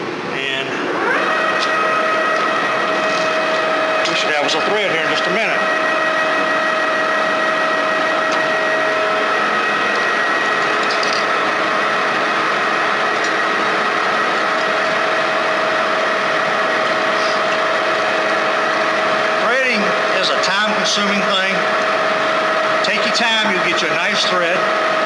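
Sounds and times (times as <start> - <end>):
metal lathe cutting thread: 0.8 - 25.0.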